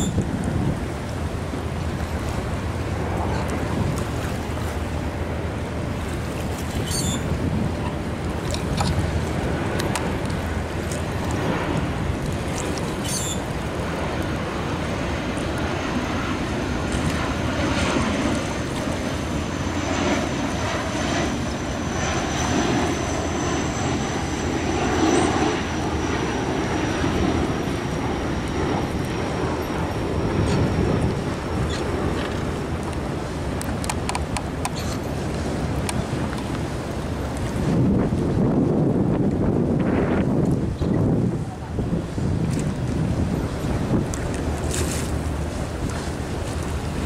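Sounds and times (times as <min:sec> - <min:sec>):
boat engine drone: 0:00.0 - 0:47.0
water noise: 0:00.0 - 0:47.0
wind buffeting microphone: 0:00.0 - 0:47.0.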